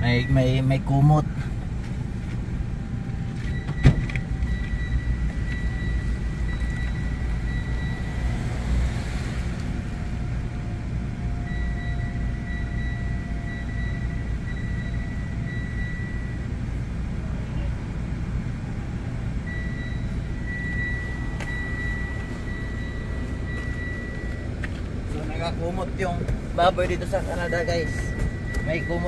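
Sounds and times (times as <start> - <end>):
engine rumbling: 0.0 - 29.0.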